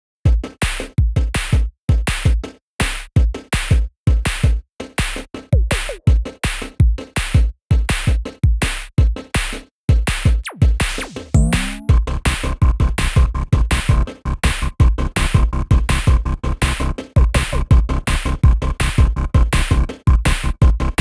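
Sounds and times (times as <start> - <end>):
electronic music with drum beat: 0.3 - 21.0.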